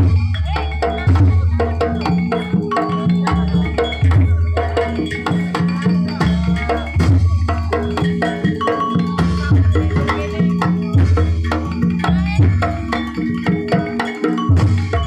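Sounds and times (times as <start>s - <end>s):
gamelan music: 0.0s - 15.0s.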